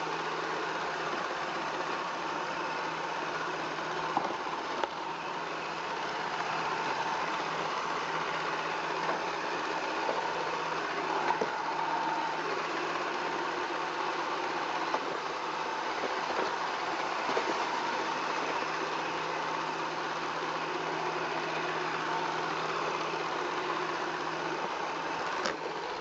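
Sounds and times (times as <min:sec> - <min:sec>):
robot vacuum motor whirring: 0:00.9 - 0:26.0.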